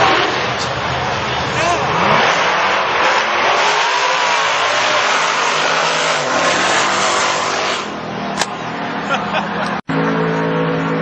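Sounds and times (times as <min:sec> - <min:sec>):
racing car engine roaring: 0:00.0 - 0:11.0.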